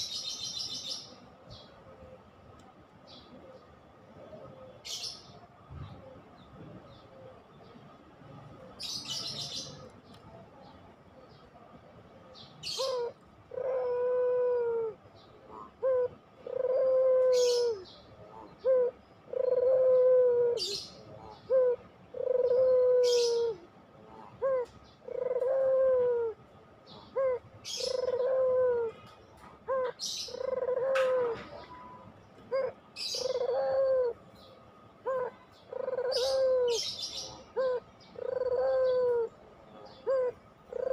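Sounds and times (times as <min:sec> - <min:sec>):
dove cooing: 0:03.2 - 0:07.8, 0:12.3 - 0:40.9.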